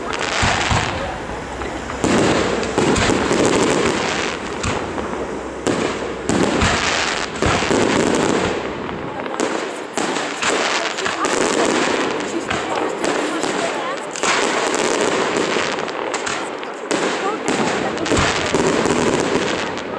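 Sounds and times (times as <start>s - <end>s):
fireworks bangs: 0.0s - 19.9s
fireworks crackling: 0.0s - 19.9s.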